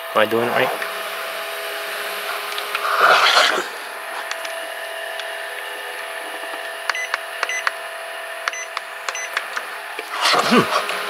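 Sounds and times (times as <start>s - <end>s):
portable fan humming: 0.0s - 11.0s.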